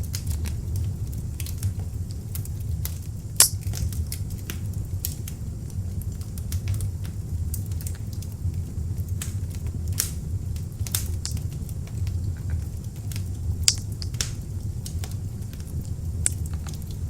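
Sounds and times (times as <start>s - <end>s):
fire crackles and pops: 0.0s - 17.0s
log fire burning: 0.0s - 17.0s.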